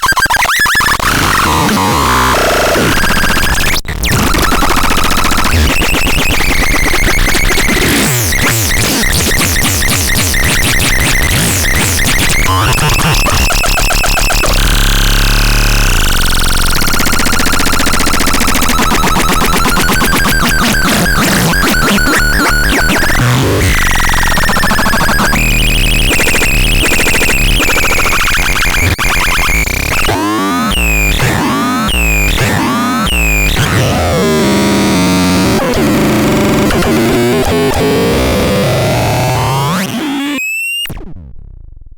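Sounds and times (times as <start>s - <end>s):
harsh noisy synthesizer: 0.0s - 41.3s.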